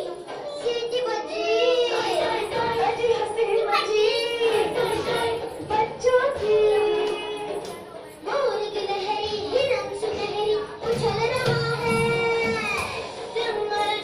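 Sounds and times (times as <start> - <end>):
children singing: 0.0 - 14.0
music: 0.0 - 14.0.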